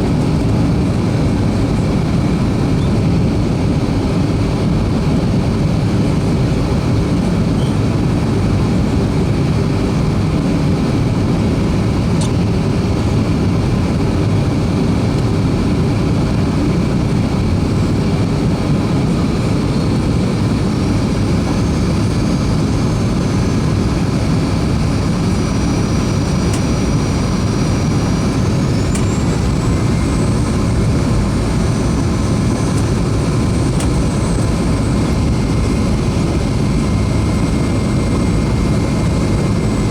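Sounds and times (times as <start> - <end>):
airflow rushing in cabin: 0.0 - 39.9
jet engines droning: 0.0 - 39.9.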